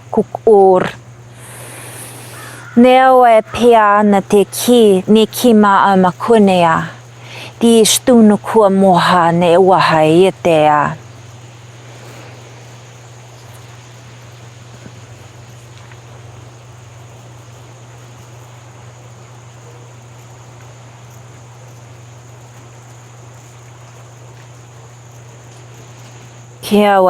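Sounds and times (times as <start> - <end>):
high insect drone: 0.0 - 27.0
steady low hum: 0.0 - 27.0.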